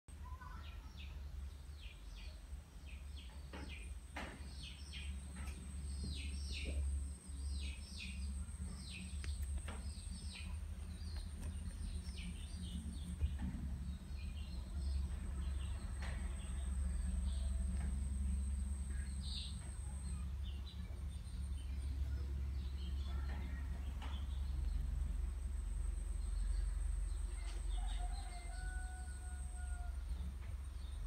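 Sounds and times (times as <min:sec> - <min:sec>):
steady low hum: 0:00.1 - 0:31.0
small birds chirping: 0:00.2 - 0:31.0.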